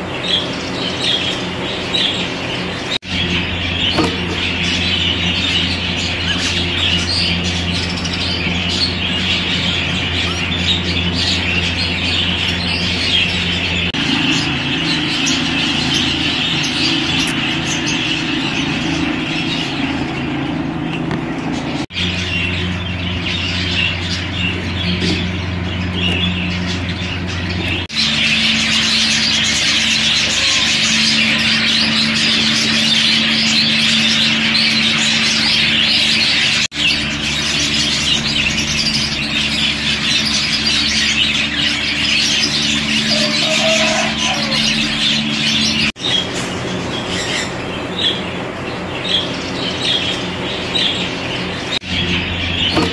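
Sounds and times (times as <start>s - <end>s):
budgerigars chattering and chirping: 0.0s - 52.9s
steady low hum: 0.0s - 52.9s.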